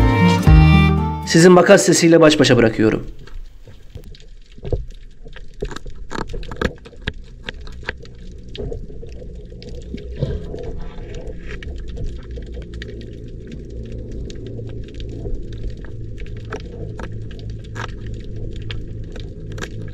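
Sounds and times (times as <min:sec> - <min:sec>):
low rumble of sea: 0:02.4 - 0:19.9.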